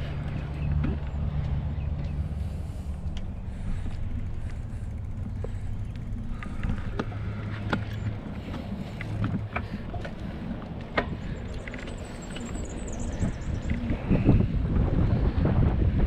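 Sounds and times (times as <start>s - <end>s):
bicycle clicks and rattles: 0.0s - 16.0s
wind and tyres rumbling: 0.0s - 16.0s.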